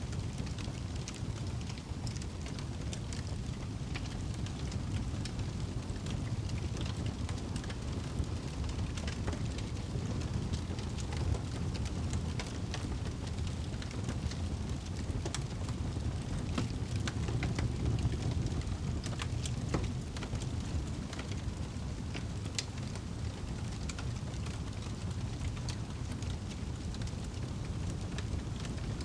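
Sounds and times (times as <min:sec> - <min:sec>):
low rumble of flames: 0:00.0 - 0:29.0
fire crackles and pops: 0:00.1 - 0:29.0.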